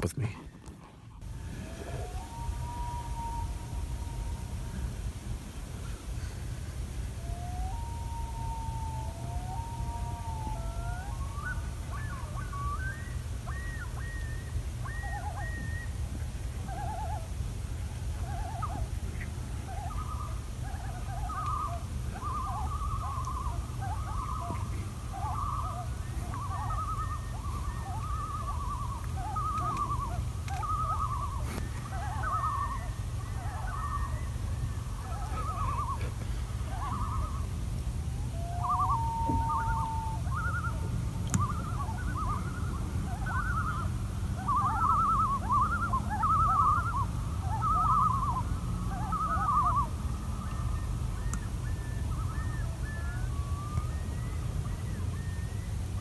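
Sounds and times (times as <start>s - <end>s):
loons calling: 0.0s - 56.0s
steady low rumble: 0.0s - 56.0s.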